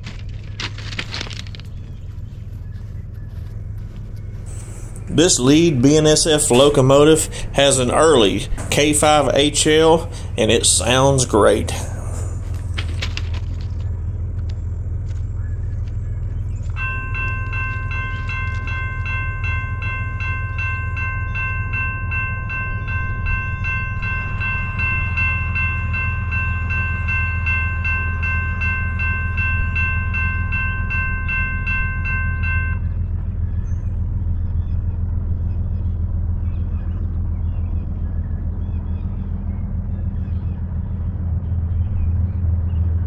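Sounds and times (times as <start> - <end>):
steady low rumble: 0.0 - 43.0
crossing warning bell ringing: 2.1 - 43.0.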